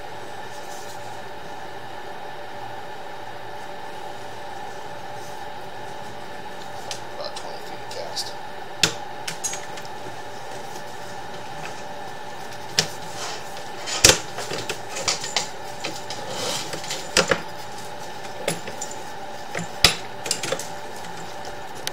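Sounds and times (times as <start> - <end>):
steady hum: 0.0 - 21.9.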